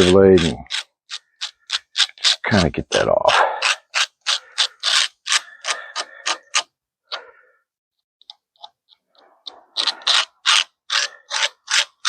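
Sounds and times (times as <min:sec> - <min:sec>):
razor blade scraping wood: 0:00.0 - 0:06.7, 0:08.3 - 0:12.0.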